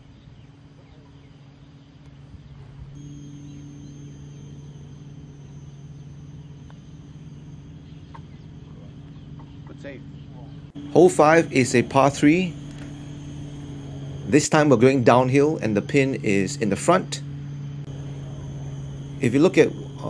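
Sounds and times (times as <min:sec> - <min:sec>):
faint chirps: 0:00.0 - 0:20.0
faint high-pitched whine: 0:00.0 - 0:20.0
steady low hum: 0:00.0 - 0:20.0.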